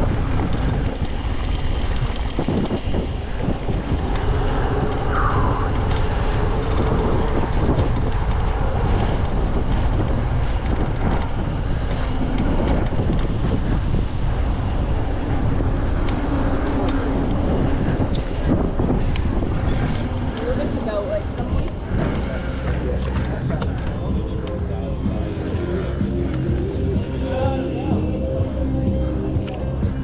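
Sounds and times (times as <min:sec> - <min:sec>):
bike rattling over rough ground: 0:00.0 - 0:27.6
wind buffeting microphone: 0:00.0 - 0:30.0.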